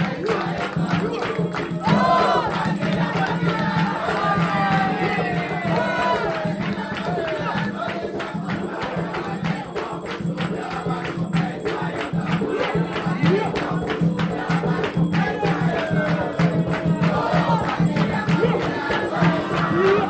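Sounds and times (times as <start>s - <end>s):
crowd joining in: 0.0s - 20.0s
group of voices chanting: 0.0s - 20.0s
steady drumbeat: 0.0s - 20.0s.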